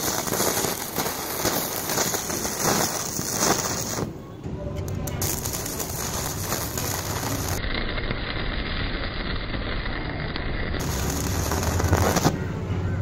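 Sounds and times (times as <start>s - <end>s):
welding arc crackling: 0.0s - 4.1s, 4.9s - 12.4s.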